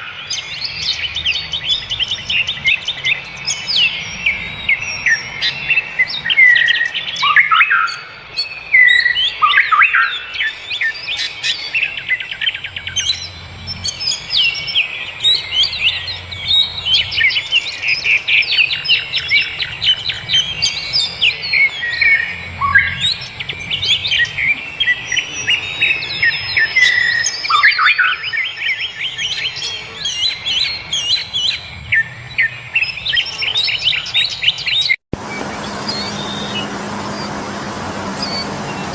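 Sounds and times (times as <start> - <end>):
small birds chirping in chorus: 0.0 - 38.9.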